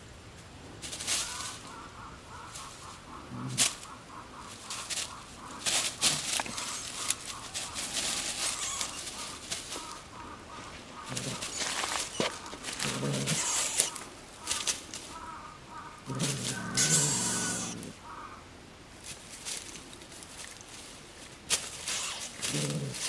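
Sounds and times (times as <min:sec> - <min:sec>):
straw rustling and crackling: 0:00.8 - 0:18.0, 0:18.9 - 0:23.0.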